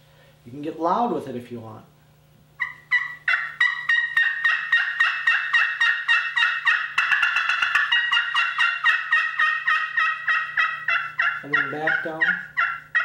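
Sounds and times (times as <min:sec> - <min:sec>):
turkey call yelps: 0:02.6 - 0:13.0.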